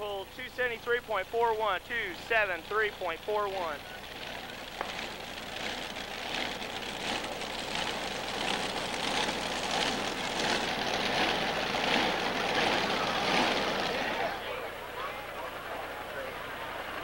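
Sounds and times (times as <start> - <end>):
tractor engines droning: 0.0 - 17.0.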